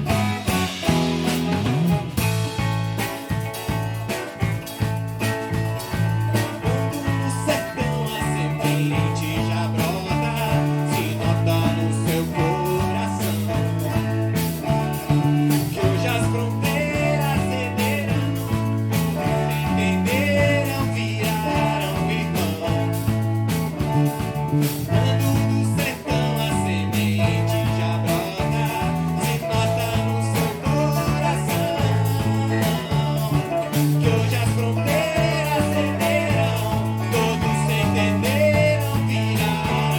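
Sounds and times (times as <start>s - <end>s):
drum beat: 0.0s - 39.9s
electric bass line: 0.0s - 39.9s
electric guitar: 0.0s - 39.9s
viola caipira: 0.0s - 39.9s.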